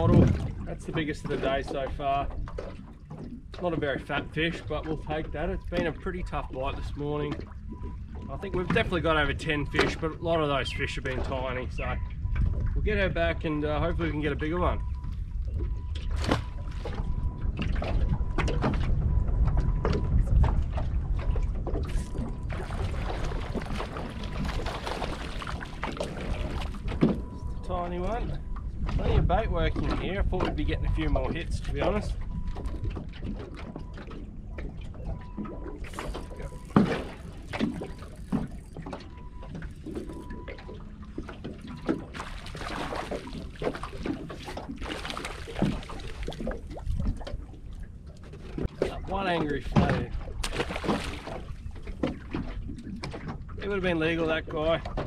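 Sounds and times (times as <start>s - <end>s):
steady low rumble: 0.0s - 55.0s
water lapping against boat hull: 0.0s - 55.0s.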